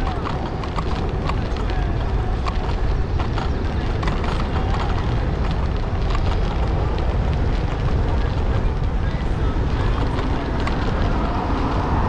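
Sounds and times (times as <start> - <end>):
sharp clicks and rattles: 0.0 - 12.0
wind rumbling on microphone: 0.0 - 12.0.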